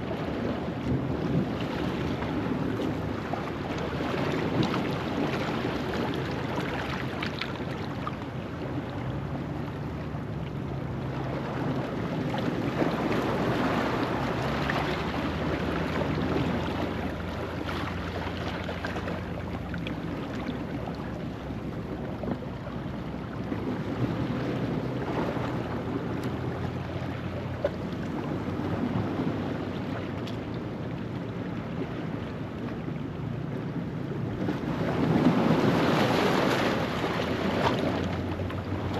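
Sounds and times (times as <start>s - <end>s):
ocean waves washing over rocks: 0.0s - 38.9s.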